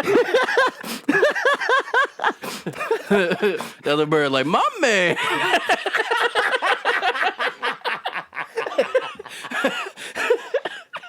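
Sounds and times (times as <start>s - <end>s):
men laughing hard: 0.0s - 3.8s, 5.1s - 11.0s.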